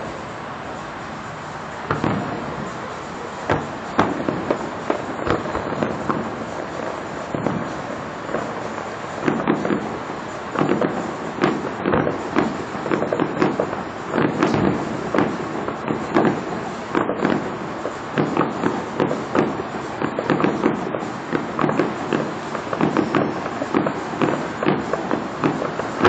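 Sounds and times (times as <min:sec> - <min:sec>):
distant fireworks bangs and pops: 0:00.0 - 0:26.0.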